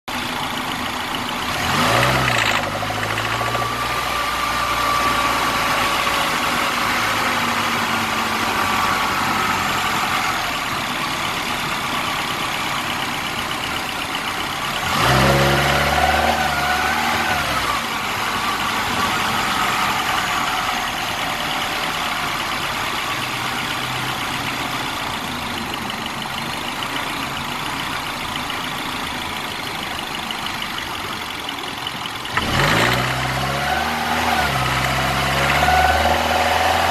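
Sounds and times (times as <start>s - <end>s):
car engine idling and revving: 0.1s - 36.9s.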